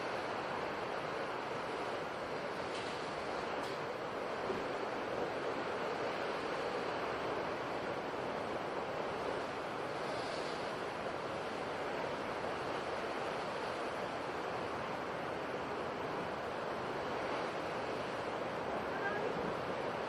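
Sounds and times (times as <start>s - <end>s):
sea surf rushing: 0.0s - 20.0s.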